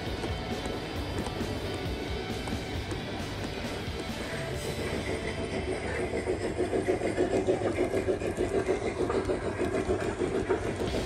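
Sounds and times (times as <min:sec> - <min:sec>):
model steam locomotive chuffing: 0:00.0 - 0:11.0.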